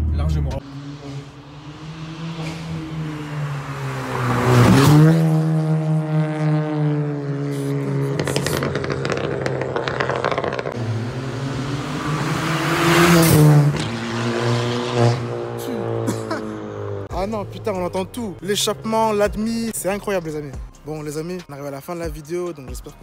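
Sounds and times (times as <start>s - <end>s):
car engine accelerating: 0.0s - 20.6s
exhaust crackles: 0.6s - 19.7s.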